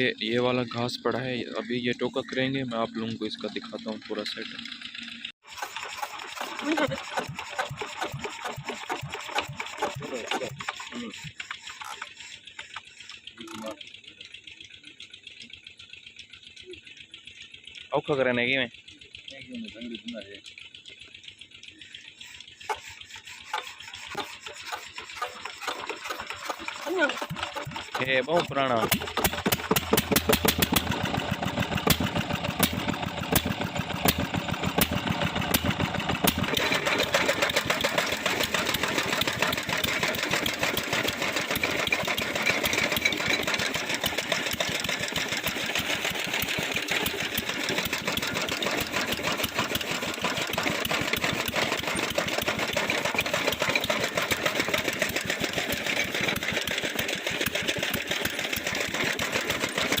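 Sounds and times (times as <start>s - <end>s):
old engine running: 0.0s - 60.0s.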